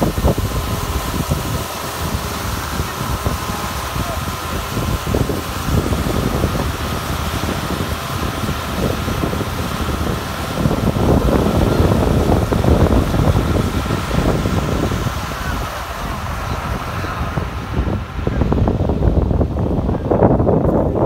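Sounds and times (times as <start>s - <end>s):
drilling rig air rushing: 0.0s - 21.0s.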